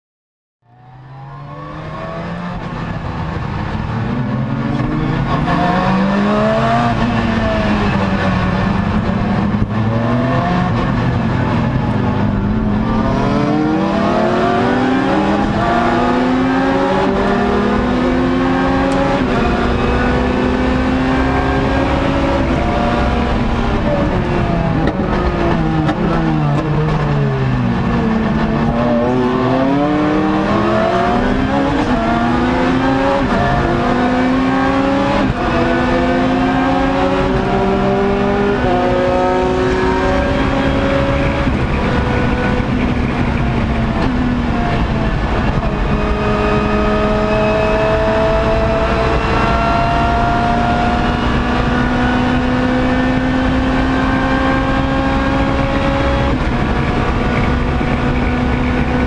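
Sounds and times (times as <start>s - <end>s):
race car engine revving: 0.7s - 59.0s.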